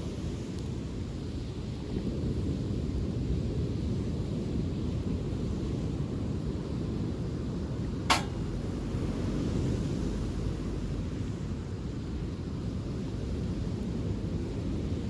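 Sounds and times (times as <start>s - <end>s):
wind rumble on microphone: 0.0s - 15.0s
bonfire burning: 0.1s - 15.0s.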